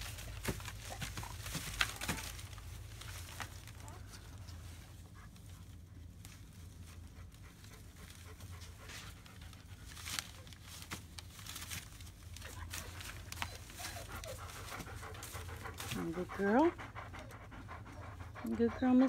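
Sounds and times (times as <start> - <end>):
newspaper bedding crinkling: 0.0 - 7.1, 8.0 - 16.7
dog panting: 0.1 - 10.6, 12.4 - 19.0.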